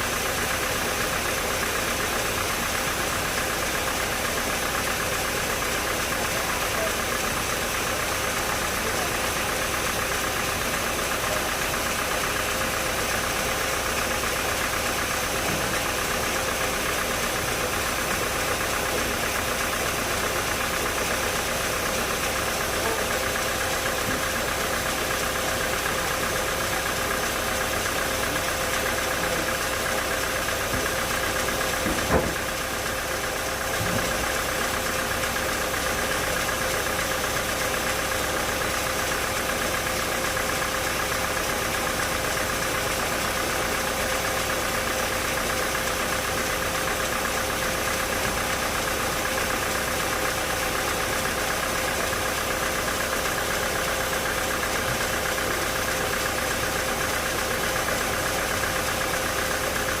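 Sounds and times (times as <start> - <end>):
sawmill machinery droning: 0.8 - 60.0.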